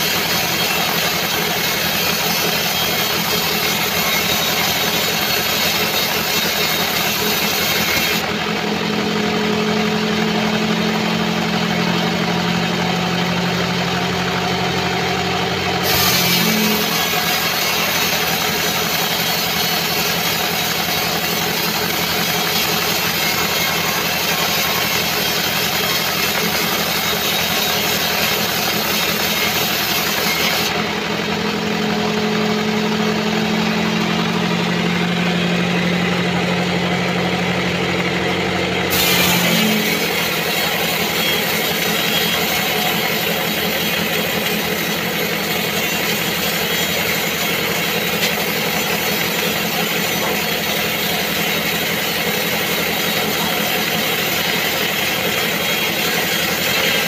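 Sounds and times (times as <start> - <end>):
band saw machine hum: 0.0 - 57.0
saw blade cutting log: 0.0 - 57.0.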